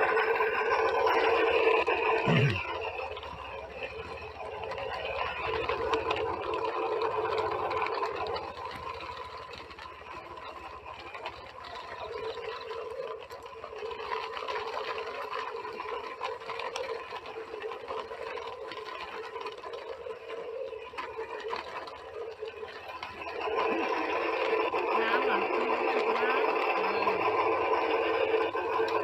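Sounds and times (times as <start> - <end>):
toy truck motor whirring: 0.0 - 29.0.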